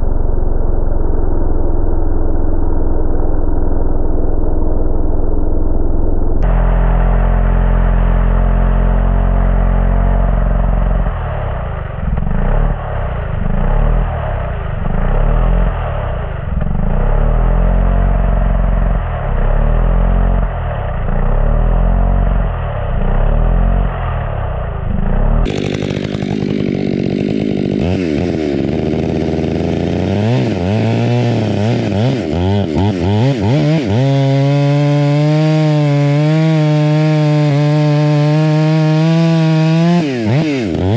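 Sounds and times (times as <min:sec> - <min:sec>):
chainsaw cutting wood: 0:06.4 - 0:24.4, 0:25.0 - 0:40.9.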